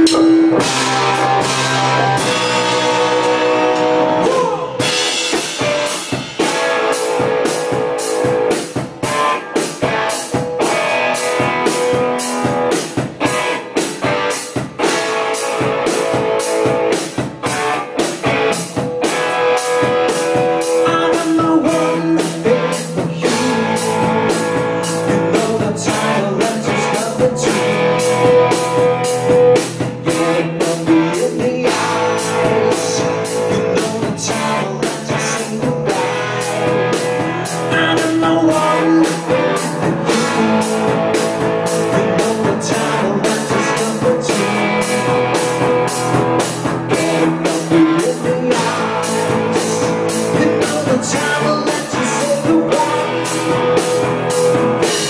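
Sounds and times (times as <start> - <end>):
bass guitar: 0.0 - 55.0
drum kit beat: 0.0 - 55.0
electric guitar: 0.0 - 55.0.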